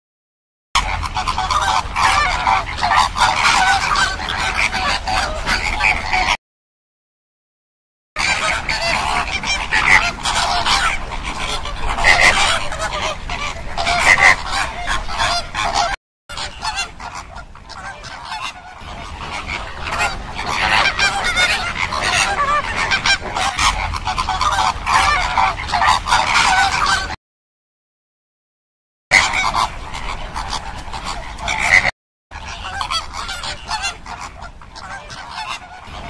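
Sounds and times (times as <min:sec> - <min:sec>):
flamingos honking: 0:00.8 - 0:06.4, 0:08.2 - 0:27.2, 0:29.1 - 0:36.0.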